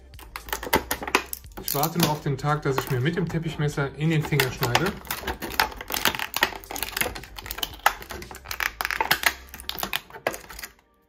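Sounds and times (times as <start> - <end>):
tape and plastic packaging crackling: 0.0 - 10.9.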